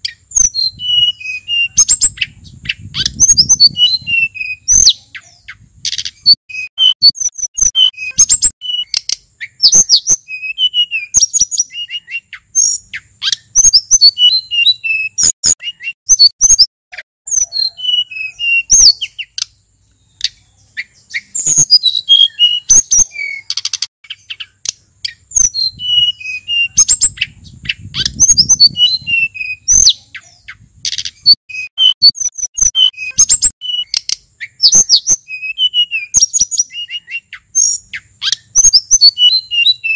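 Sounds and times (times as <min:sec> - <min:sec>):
bird singing whistles and chirps: 0:00.0 - 0:16.7, 0:17.3 - 0:39.9.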